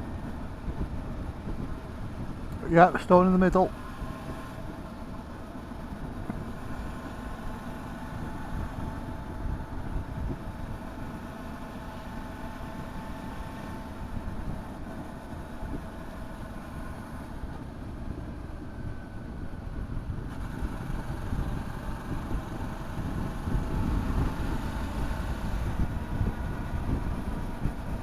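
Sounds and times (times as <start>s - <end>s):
motorcycle engine running: 3.7s - 28.0s.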